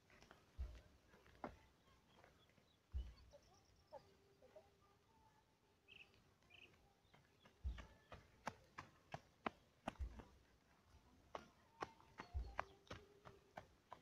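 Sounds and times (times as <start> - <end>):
footsteps crunching on dirt path: 0.0 - 3.8, 6.1 - 14.0.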